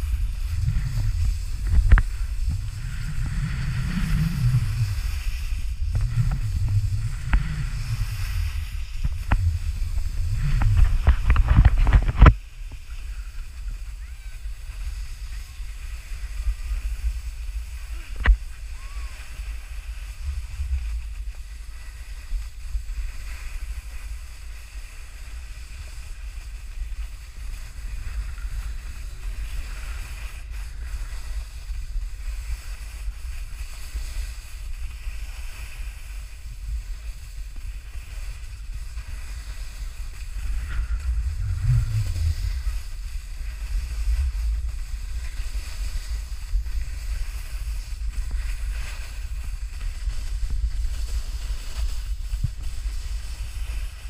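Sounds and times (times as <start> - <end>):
wind buffeting microphone: 0.0 - 23.9, 25.4 - 54.0
snowboard rushing over snow: 0.0 - 54.0.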